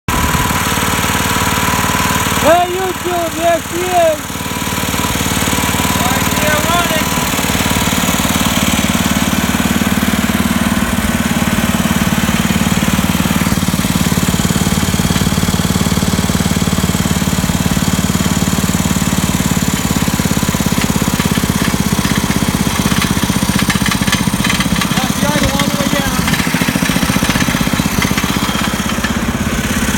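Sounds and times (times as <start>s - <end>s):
garden tractor engine running: 0.1s - 29.9s.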